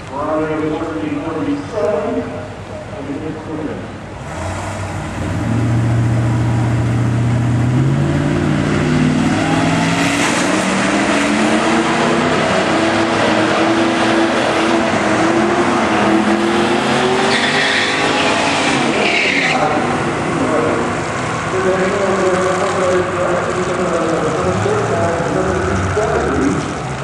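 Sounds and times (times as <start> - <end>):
another car running: 4.1 - 27.0
pickup truck engine at full throttle: 4.1 - 27.0.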